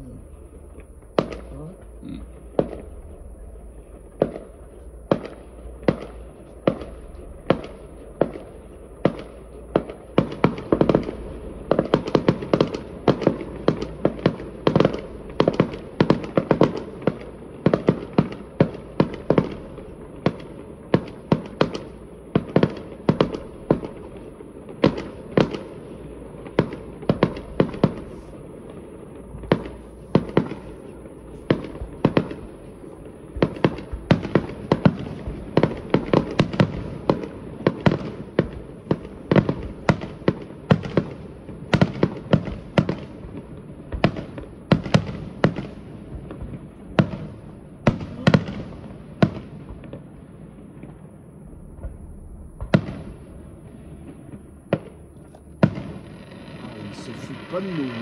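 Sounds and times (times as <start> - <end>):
fireworks bangs and cracks: 0.0 - 58.0.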